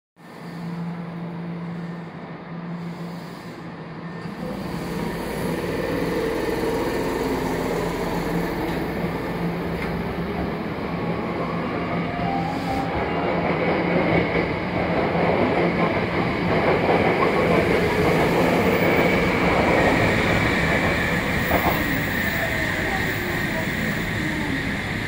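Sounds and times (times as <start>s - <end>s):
electric train pulling away: 0.3s - 25.0s.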